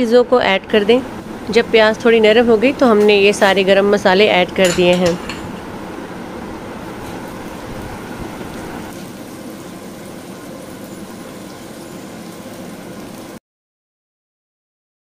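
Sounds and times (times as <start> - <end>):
onions sizzling in ghee: 0.7 - 13.4.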